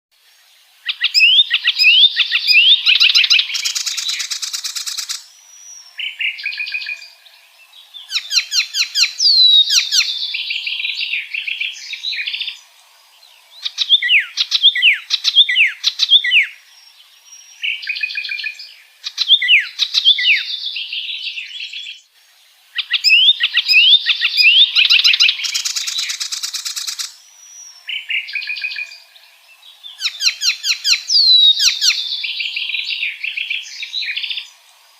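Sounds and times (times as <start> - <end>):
warbler singing whistles: 0.8 - 12.7, 13.3 - 22.1, 22.8 - 34.7.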